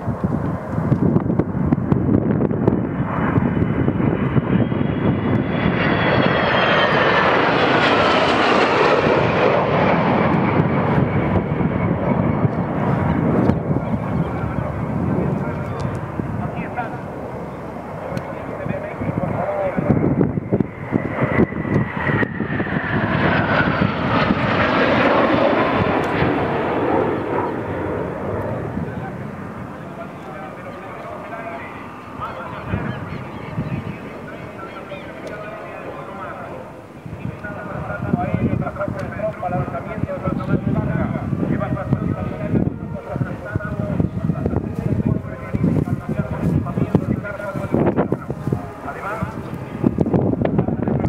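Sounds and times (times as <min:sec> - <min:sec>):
airplane engine noise: 0:00.0 - 0:51.0
falling engine whine: 0:00.2 - 0:51.0.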